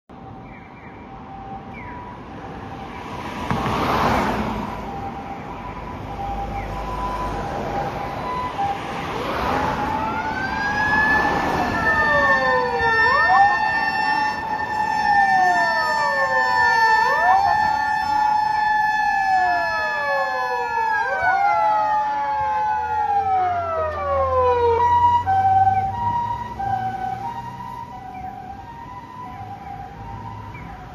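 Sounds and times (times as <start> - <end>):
ambulance motor siren wailing: 4.7 - 30.9
low siren tone sweeping down: 4.7 - 30.9
two-tone hi-lo electronic siren: 4.7 - 30.9.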